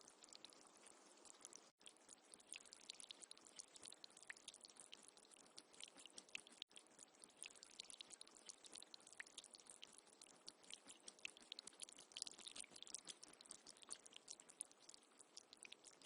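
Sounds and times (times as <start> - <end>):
soft hiss: 0.0 - 16.0
water trickling and dripping: 0.0 - 16.0.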